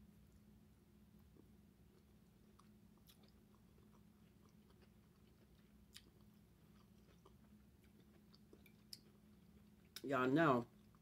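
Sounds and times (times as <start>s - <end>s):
steady low hum: 0.0s - 11.0s
close-mouthed chewing: 1.3s - 11.0s.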